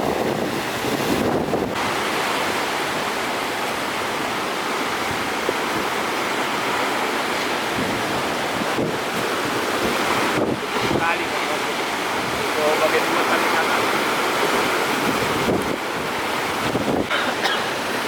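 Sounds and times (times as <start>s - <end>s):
wind on microphone: 0.0s - 17.2s
rough sea: 0.0s - 18.0s
strong wind: 0.0s - 18.0s.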